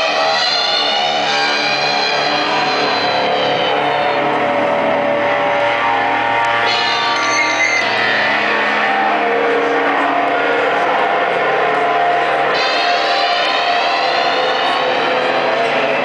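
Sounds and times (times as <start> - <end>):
electric guitar droning chords: 0.0 - 16.0.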